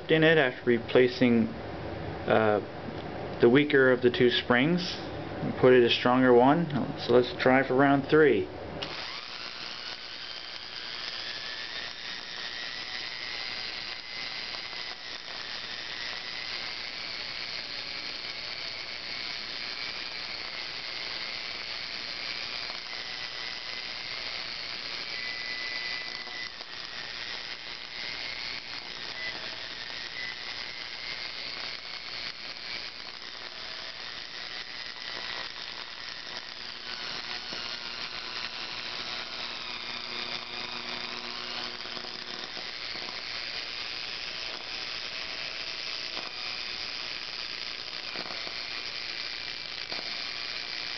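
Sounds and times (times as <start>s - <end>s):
motor brushes sparking crackle: 2.2s - 50.9s
electric motor whining: 8.8s - 50.9s.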